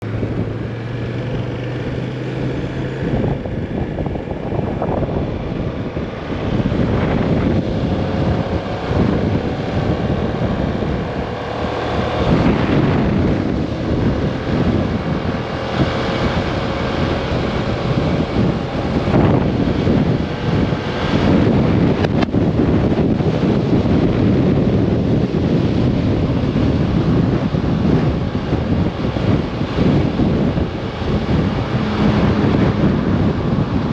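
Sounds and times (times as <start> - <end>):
scooter engine hum: 0.0 - 33.9
wind buffeting microphone: 0.0 - 33.9.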